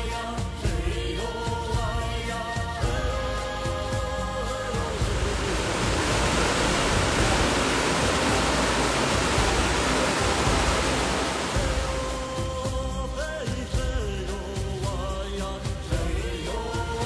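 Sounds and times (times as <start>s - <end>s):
music: 0.0s - 17.0s
waterfall pouring over rocks: 3.2s - 17.0s.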